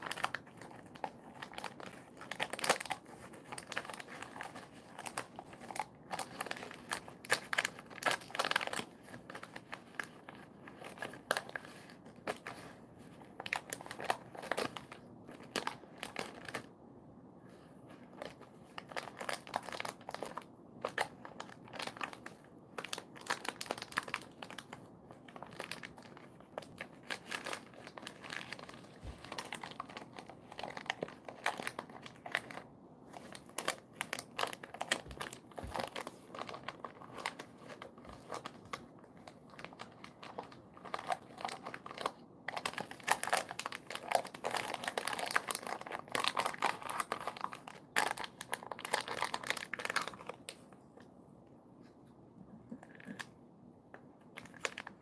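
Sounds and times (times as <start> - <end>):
plastic wrapper crinkling: 0.0 - 16.7, 17.9 - 50.7, 54.3 - 55.0.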